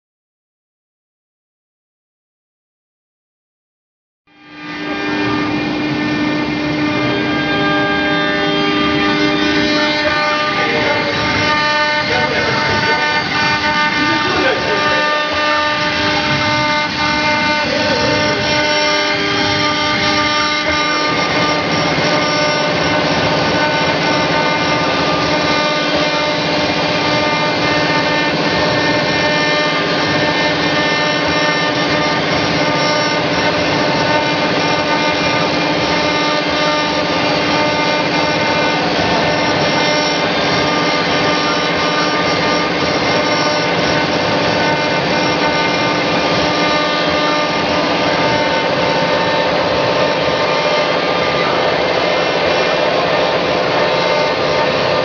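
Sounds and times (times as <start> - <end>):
router spindle whine: 4.3 - 55.0
hiss of bit cutting wood: 5.2 - 55.0.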